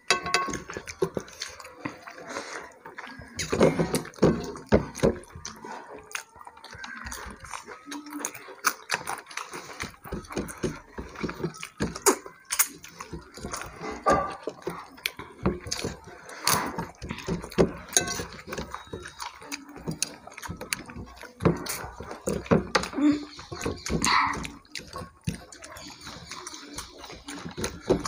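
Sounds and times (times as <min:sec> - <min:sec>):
chewing and mouth smacking: 0:00.0 - 0:28.0
fingers mixing wet rice: 0:00.0 - 0:28.0.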